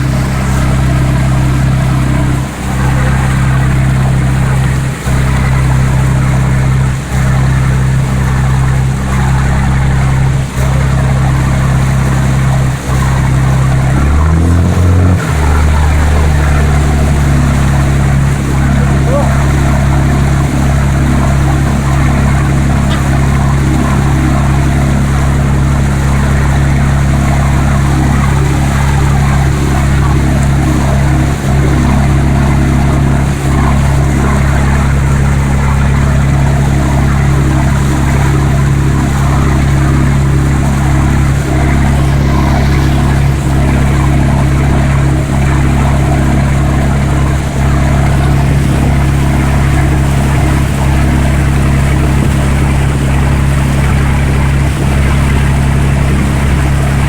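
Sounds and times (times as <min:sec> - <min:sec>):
diesel engine drone: 0:00.0 - 0:57.0
water hissing: 0:00.0 - 0:57.0.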